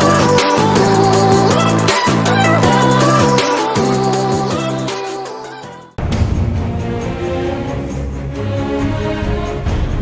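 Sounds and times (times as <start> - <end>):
background music held notes: 0.0 - 10.0.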